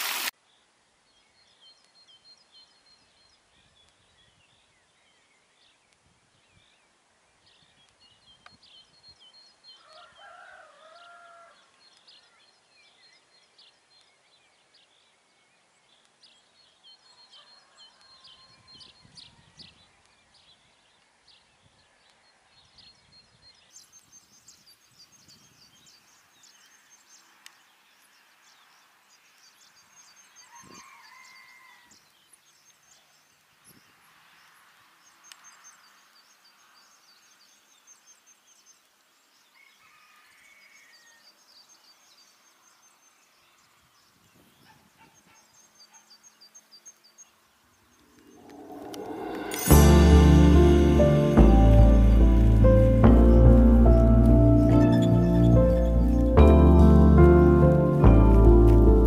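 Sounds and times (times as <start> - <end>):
songbirds chirping and trilling: 0.3 - 49.8, 50.6 - 59.0.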